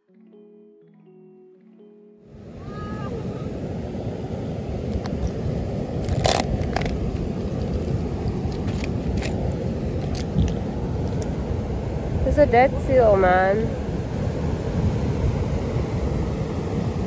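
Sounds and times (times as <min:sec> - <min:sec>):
low rumbling outdoor noise: 0:02.3 - 0:17.0.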